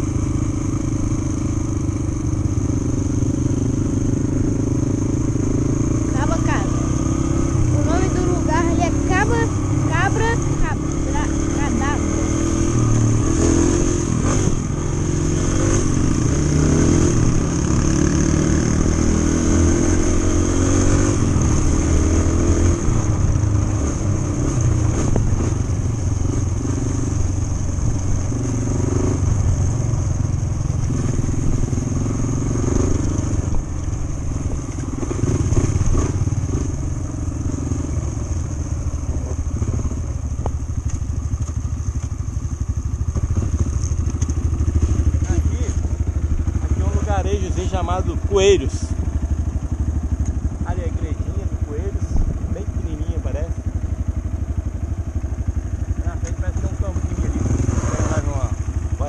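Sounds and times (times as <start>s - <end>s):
trail bike engine running: 0.0s - 59.0s.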